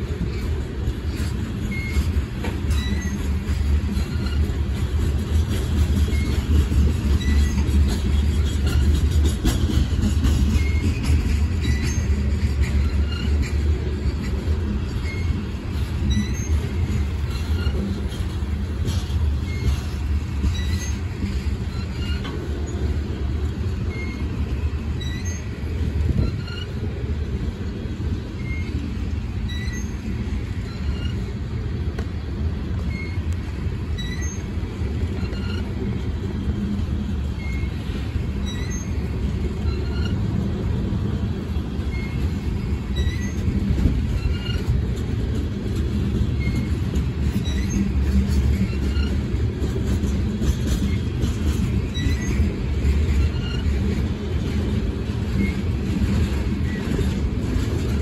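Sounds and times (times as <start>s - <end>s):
train cars rolling past: 0.0s - 58.0s.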